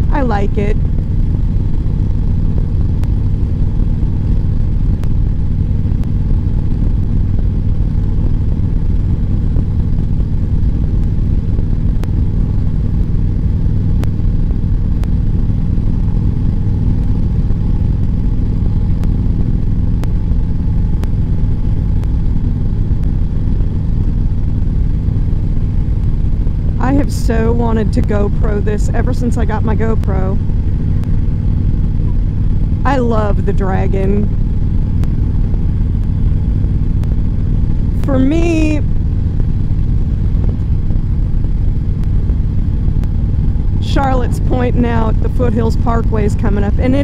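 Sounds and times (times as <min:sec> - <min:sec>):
motorcycle engine cruising: 0:00.0 - 0:47.0
wind and road rush: 0:00.0 - 0:47.0.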